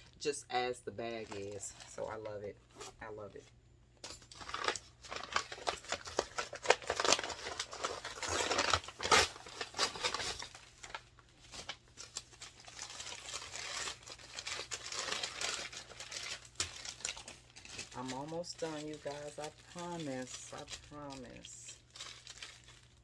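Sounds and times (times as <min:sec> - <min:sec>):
packaging crinkling and rustling: 0:01.0 - 0:03.0, 0:04.0 - 0:23.0.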